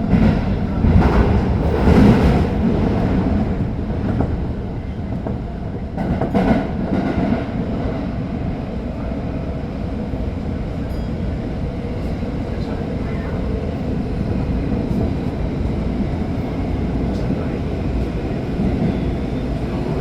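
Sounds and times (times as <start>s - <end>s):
subway train rumbling in tunnel: 0.0s - 20.0s.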